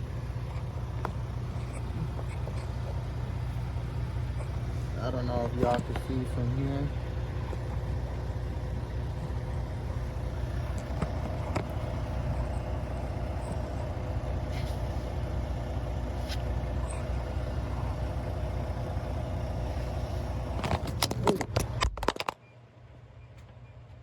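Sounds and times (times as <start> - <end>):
low mechanical drone: 0.0 - 22.2
faint constant tone: 0.0 - 24.0.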